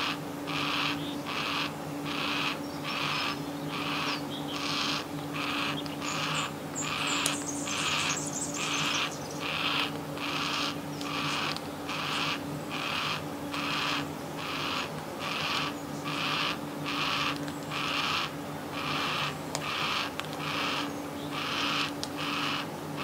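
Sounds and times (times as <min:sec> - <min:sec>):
young cockatoo rasping begging calls: 0:00.0 - 0:23.0.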